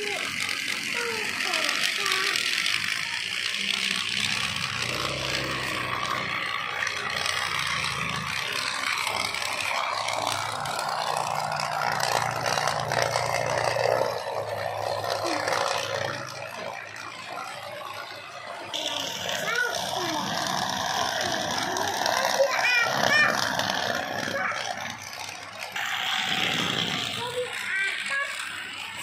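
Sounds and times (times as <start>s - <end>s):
small electric motors whirring: 0.0s - 29.0s
toy train wheels rattling on rails: 0.0s - 29.0s.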